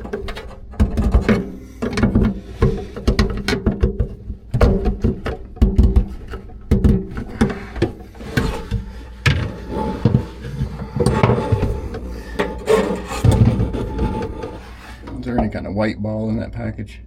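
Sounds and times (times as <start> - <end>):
knocks and clicks of tools: 0.0 - 15.6.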